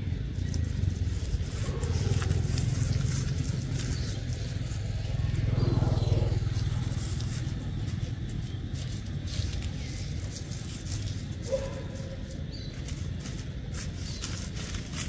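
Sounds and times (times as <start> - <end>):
dry leaves crackling: 0.0 - 15.0
low motor rumble: 0.0 - 15.0.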